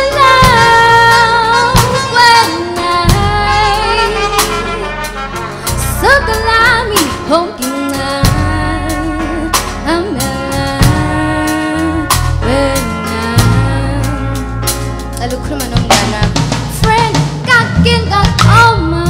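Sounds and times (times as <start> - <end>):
woman singing: 0.0 - 5.0, 5.8 - 14.6, 15.2 - 19.0
bass guitar: 0.0 - 19.0
drum kit: 0.0 - 19.0
electric keyboard: 0.0 - 19.0
trumpet: 0.0 - 19.0.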